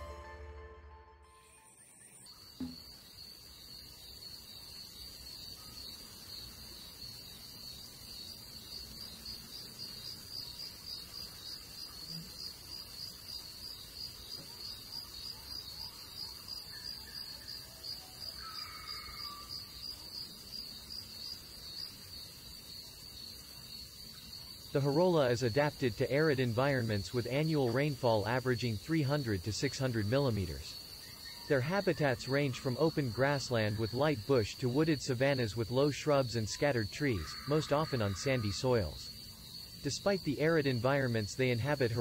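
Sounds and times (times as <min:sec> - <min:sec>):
insects chirring: 0:01.3 - 0:42.0.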